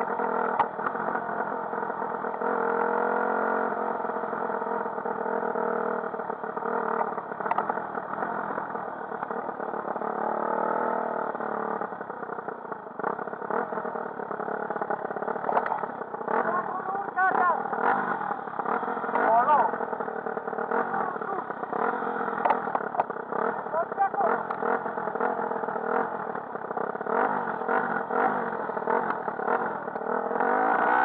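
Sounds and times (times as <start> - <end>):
dirt bike engine accelerating: 0.0 - 31.0.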